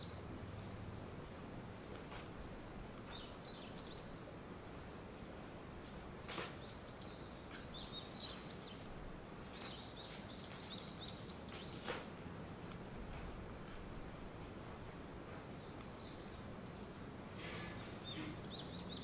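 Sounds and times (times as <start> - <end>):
small birds chirping: 0.0 - 1.2, 2.2 - 19.0
outdoor background hiss: 0.0 - 19.0.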